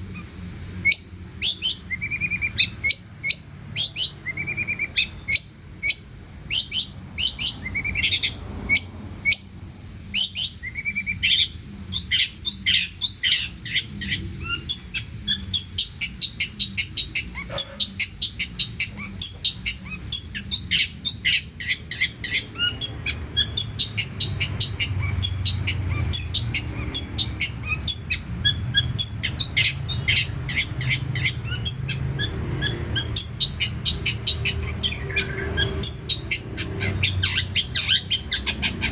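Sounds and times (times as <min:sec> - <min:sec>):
shrike singing chirps and whistles: 0:00.2 - 0:38.9.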